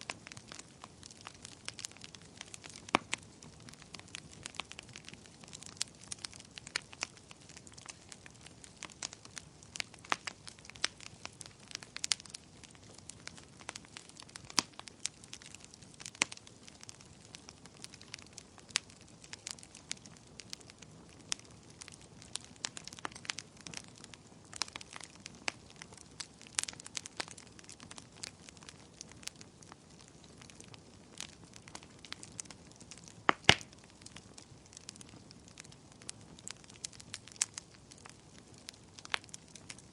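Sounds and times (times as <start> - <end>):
campfire crackling and popping: 0.0 - 39.9
low steady hiss: 0.0 - 39.9.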